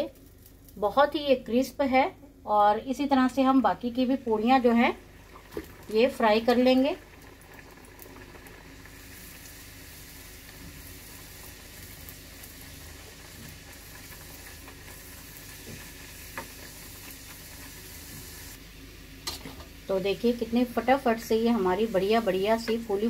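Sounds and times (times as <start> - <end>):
oil sizzling and bubbling: 0.0 - 2.1, 2.7 - 23.0.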